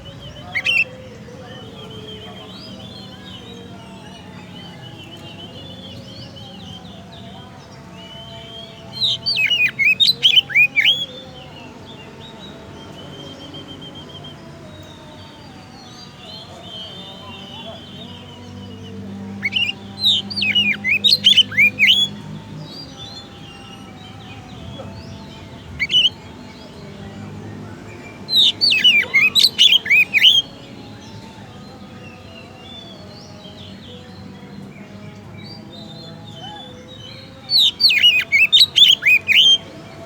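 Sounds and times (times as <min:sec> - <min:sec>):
bird singing whistled notes: 0:00.0 - 0:40.0.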